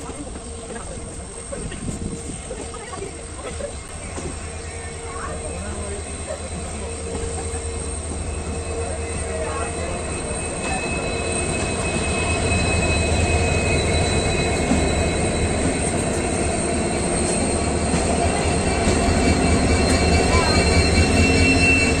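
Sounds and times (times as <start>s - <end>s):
rumble of wheels on rail: 0.0s - 22.0s
high squeal of wheel flanges: 4.4s - 22.0s.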